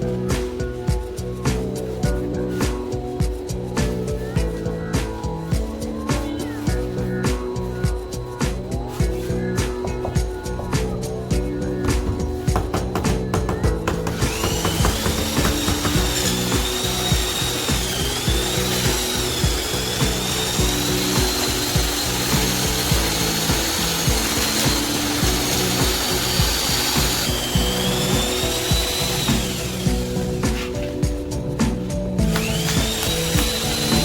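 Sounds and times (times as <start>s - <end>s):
music with steady beat: 0.0s - 34.0s
power tool whining: 0.0s - 34.0s.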